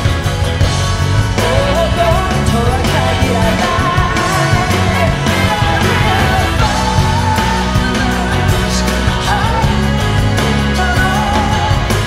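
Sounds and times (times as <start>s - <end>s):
live rock band playing: 0.0s - 12.0s
person singing lead melody: 1.3s - 12.0s.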